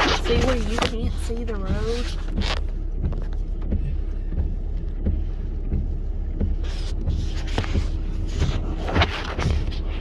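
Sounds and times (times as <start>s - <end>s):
car engine rumble: 0.0s - 10.0s
windshield wipers running: 0.0s - 10.0s.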